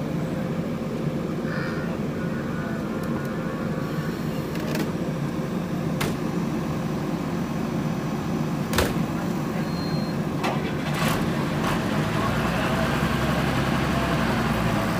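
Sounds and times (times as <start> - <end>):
diesel engine droning: 0.0 - 14.9.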